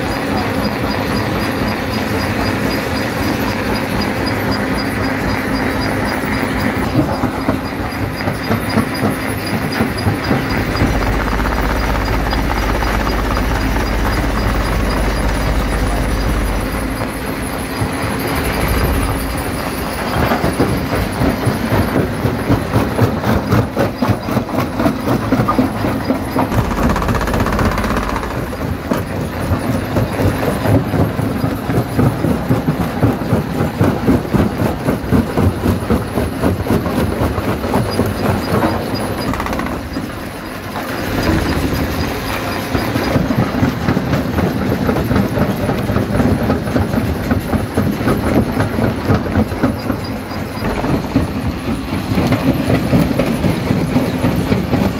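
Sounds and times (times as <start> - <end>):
crusher machine drone: 0.0 - 54.9.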